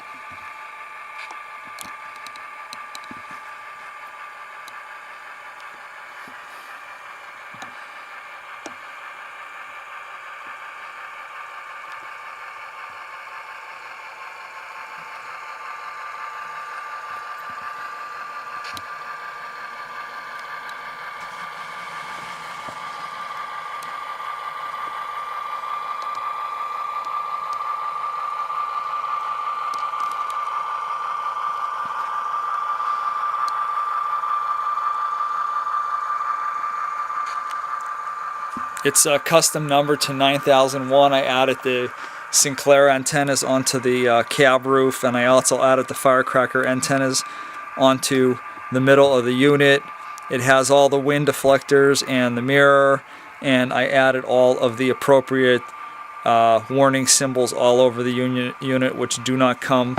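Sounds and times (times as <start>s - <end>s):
light mechanical rattle: 0.0s - 59.0s
diesel engine sound from small speaker: 0.0s - 59.9s
steady whine: 0.0s - 59.9s.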